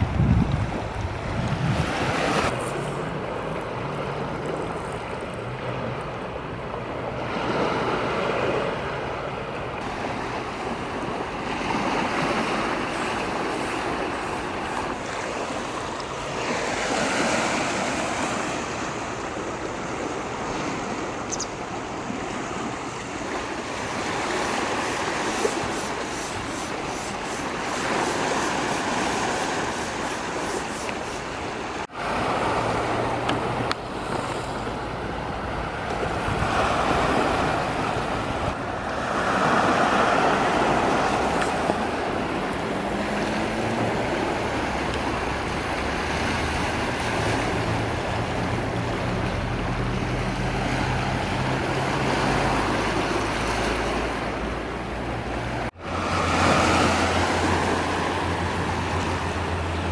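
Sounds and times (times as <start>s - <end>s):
waves washing: 0.0s - 59.9s.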